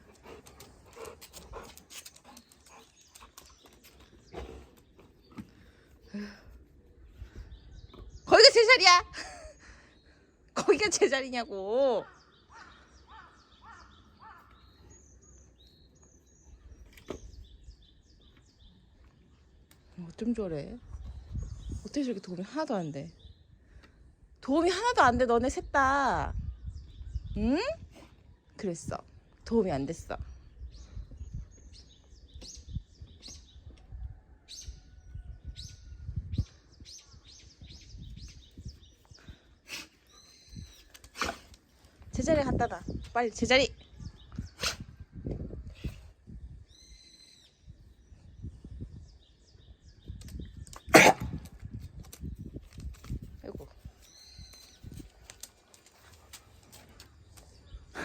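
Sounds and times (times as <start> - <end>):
faint birds chirping: 0.0 - 58.0.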